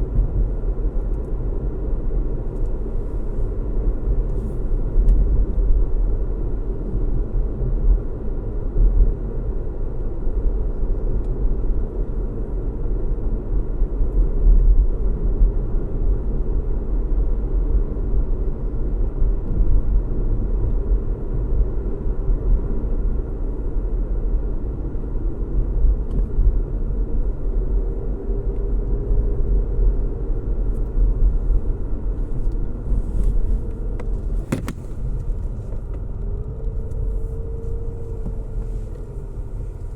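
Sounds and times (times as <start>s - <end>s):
road noise: 0.0s - 14.3s, 17.4s - 39.9s
car engine hum: 0.0s - 39.9s.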